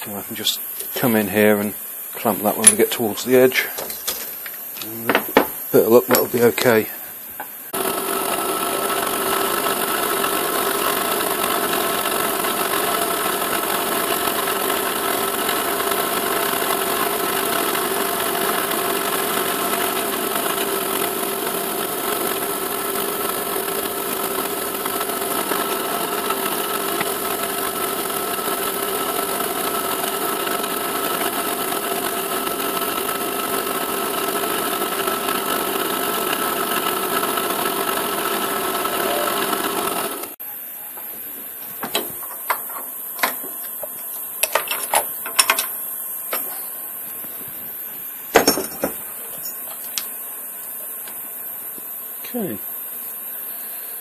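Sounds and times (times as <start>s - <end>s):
stepper motor hiss: 0.0s - 54.0s.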